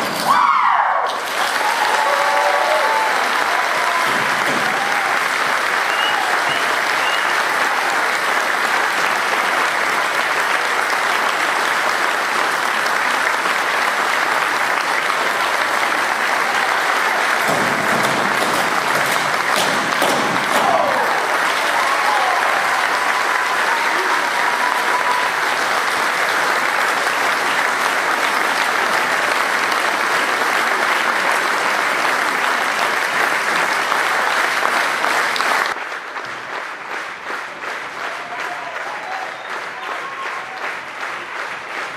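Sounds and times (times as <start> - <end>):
audience cheering: 0.0 - 35.8, 37.9 - 41.4
audience applauding: 0.0 - 41.9.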